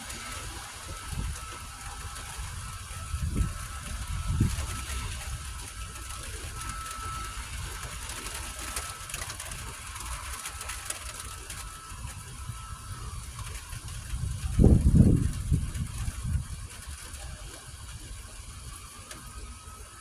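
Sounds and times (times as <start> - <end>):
rain hiss: 0.0 - 20.0.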